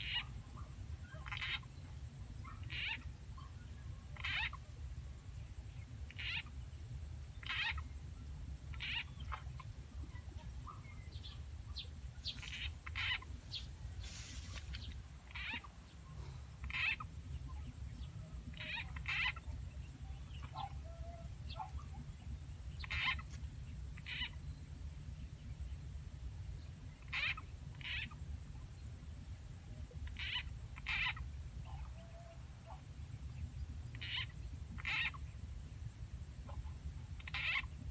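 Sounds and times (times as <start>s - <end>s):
frog croaks: 0.0s - 25.8s, 26.4s - 37.9s.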